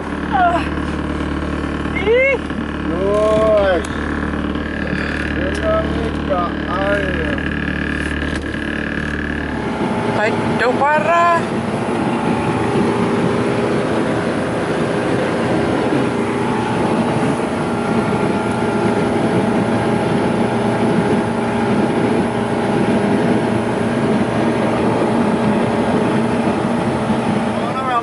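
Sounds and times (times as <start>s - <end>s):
motorboat engine drone: 0.0s - 28.0s.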